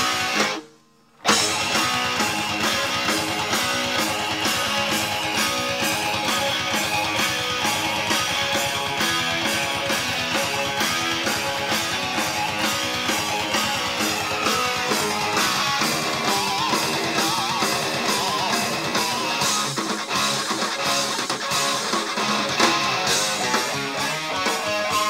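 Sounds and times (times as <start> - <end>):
distorted electric guitar riff: 0.0 - 25.0
rock drum beat: 0.0 - 25.0.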